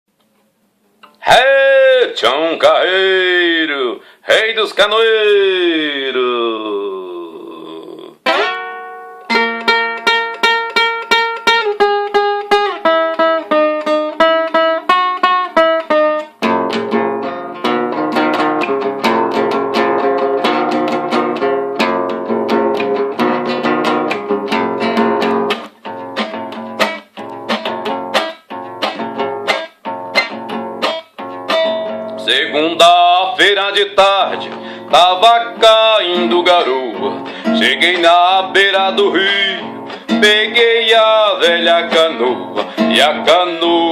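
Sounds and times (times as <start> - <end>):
acoustic string instrument playing: 8.2 - 43.9.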